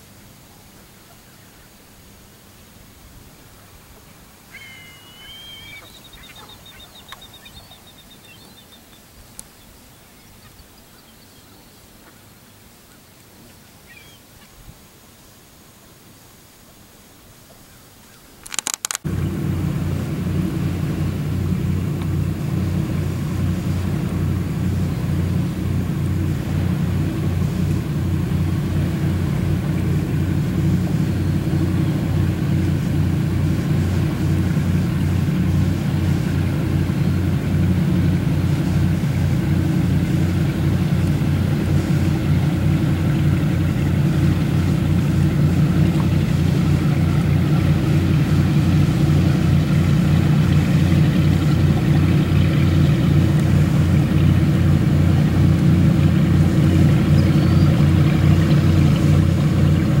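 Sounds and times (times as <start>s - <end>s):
engine droning: 2.5s - 12.2s, 18.5s - 60.0s.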